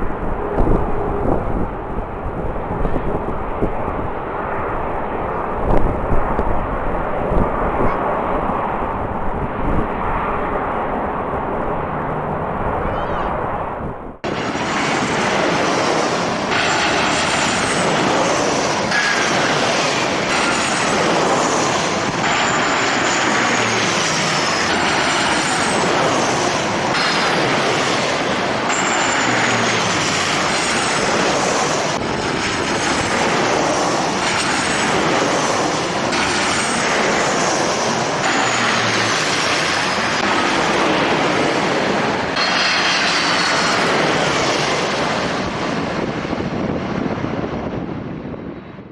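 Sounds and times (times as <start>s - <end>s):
jet engines with turbine whine: 0.0s - 48.9s.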